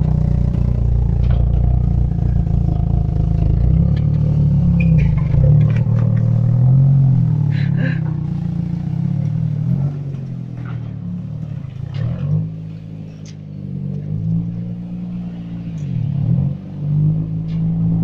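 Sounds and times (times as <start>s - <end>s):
car engine running: 0.0s - 16.1s.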